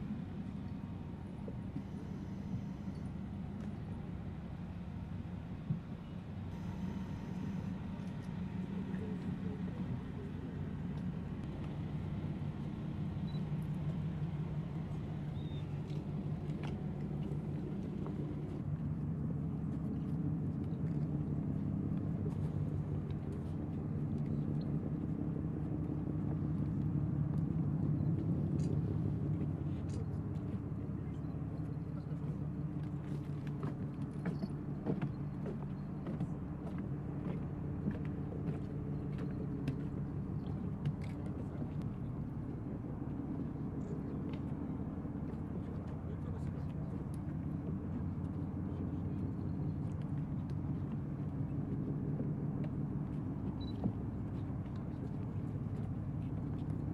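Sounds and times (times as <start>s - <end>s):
low engine drone: 0.0s - 56.9s.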